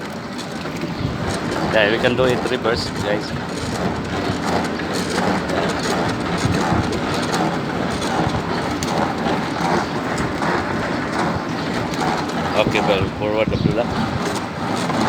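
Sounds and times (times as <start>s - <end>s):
washing machine water churning: 0.0s - 15.0s.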